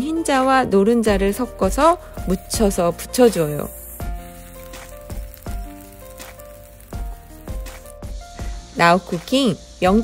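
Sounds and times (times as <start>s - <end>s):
melodic background music: 0.0s - 10.0s.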